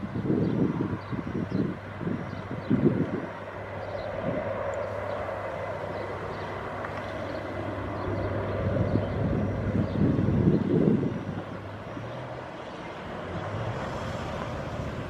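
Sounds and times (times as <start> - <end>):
jet engines at takeoff power: 0.0 - 15.0
wind gusts on microphone: 0.0 - 15.0.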